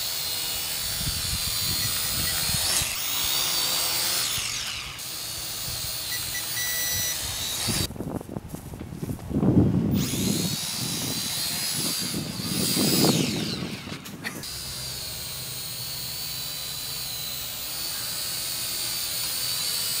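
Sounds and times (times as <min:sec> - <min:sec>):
quadcopter propellers whining: 0:00.0 - 0:07.9, 0:09.9 - 0:20.0.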